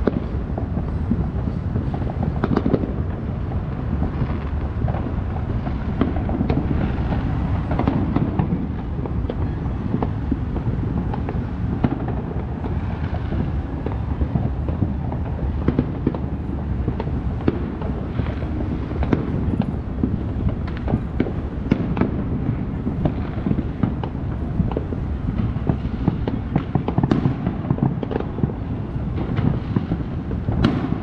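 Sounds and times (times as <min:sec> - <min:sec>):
distant fireworks bangs and pops: 0:00.0 - 0:31.0
steady low rumble: 0:00.0 - 0:31.0.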